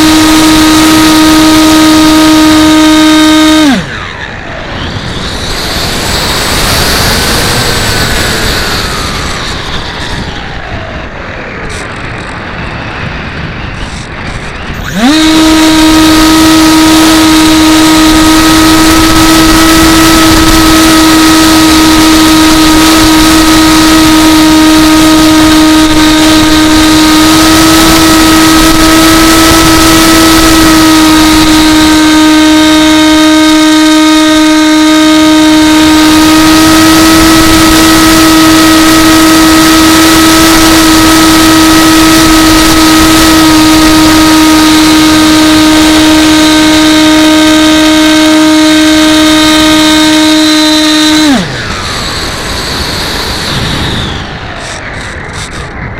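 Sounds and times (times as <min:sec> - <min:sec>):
model plane propeller whine: 0:00.0 - 0:55.9.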